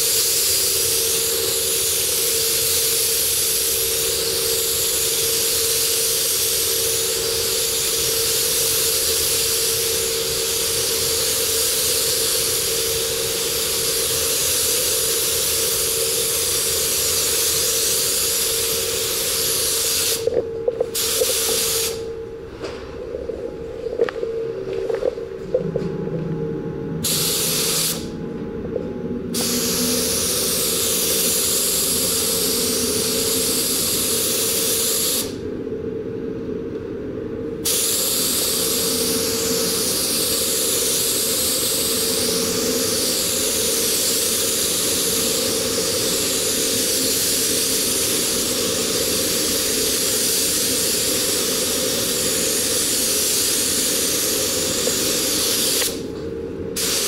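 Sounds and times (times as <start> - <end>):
spray gun hissing: 0.0 - 20.3, 21.0 - 22.1, 27.0 - 28.1, 29.3 - 35.4, 37.6 - 56.1, 56.8 - 57.0.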